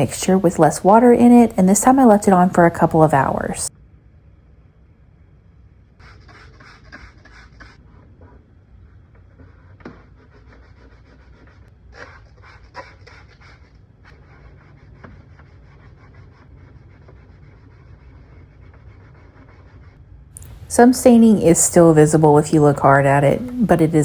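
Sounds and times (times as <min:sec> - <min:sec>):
low steady hum: 0:00.0 - 0:11.8, 0:13.9 - 0:24.0.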